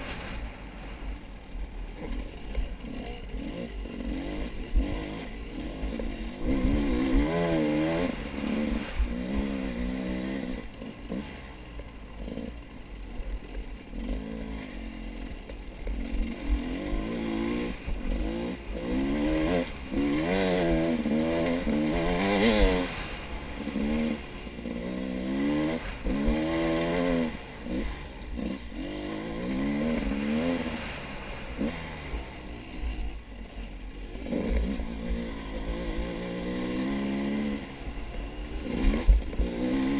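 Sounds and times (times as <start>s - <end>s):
vehicle engine revving: 1.8s - 39.9s.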